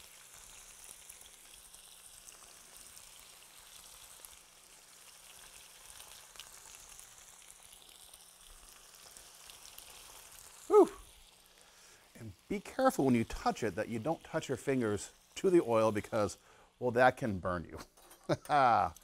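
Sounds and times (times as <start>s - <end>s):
meat sizzling in oil: 0.0s - 17.6s, 18.3s - 19.0s.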